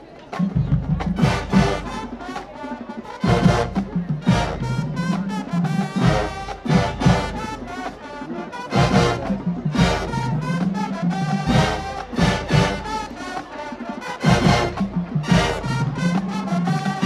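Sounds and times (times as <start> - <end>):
marching band brass: 0.0 - 17.0
steady drum beat: 0.3 - 17.0.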